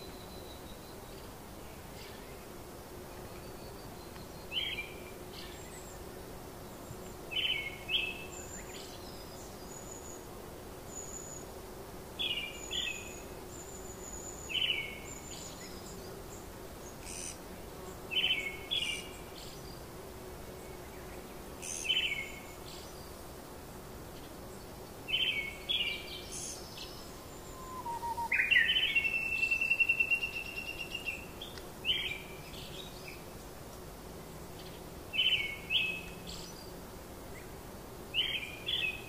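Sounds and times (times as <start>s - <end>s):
soft hiss: 0.0s - 39.0s.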